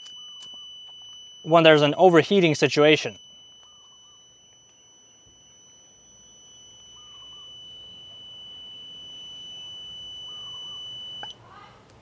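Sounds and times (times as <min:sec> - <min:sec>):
high-pitched continuity beep tone: 0:00.0 - 0:11.4.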